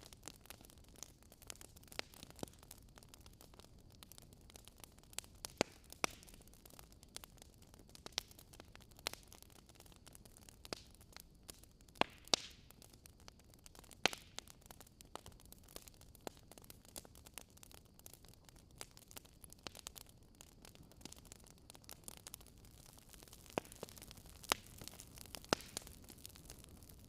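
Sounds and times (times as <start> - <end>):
soft fire hiss: 0.0 - 27.0
wood fire popping and snapping: 0.0 - 27.0.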